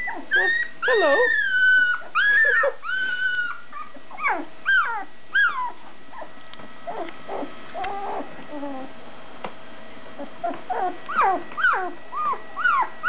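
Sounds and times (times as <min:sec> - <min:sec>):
puppy whimpering and squealing: 0:00.0 - 0:08.9, 0:10.2 - 0:13.0.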